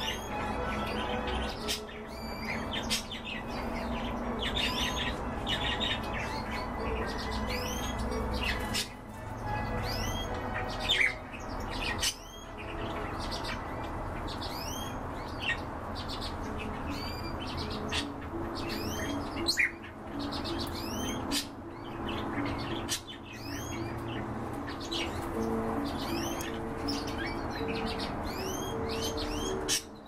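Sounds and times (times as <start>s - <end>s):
cage birds chirping: 0.0s - 30.0s.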